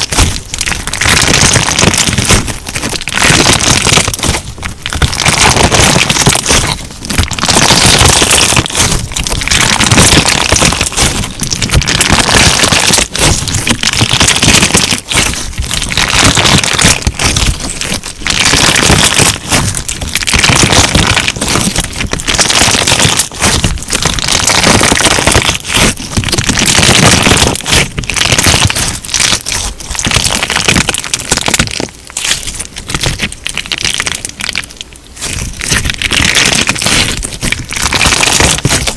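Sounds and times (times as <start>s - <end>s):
crunchy slime crackling: 0.0s - 38.9s.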